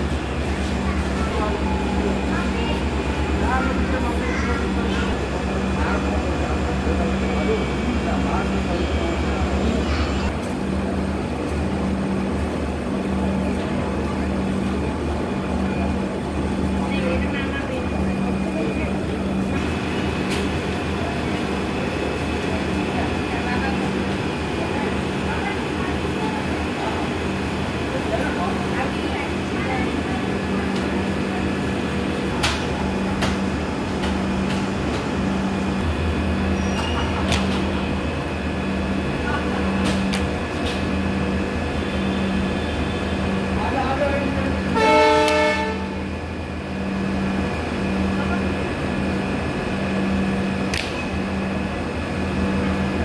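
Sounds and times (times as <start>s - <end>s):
train mechanical hum: 0.0s - 53.0s.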